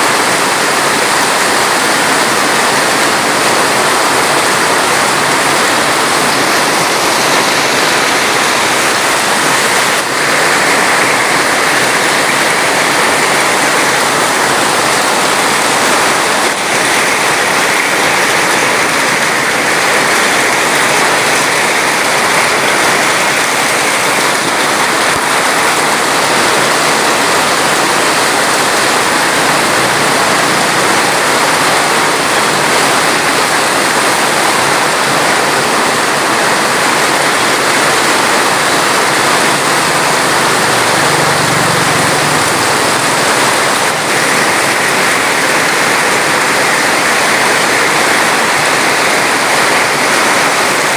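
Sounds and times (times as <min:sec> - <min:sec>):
water rushing: 0:00.0 - 0:50.9.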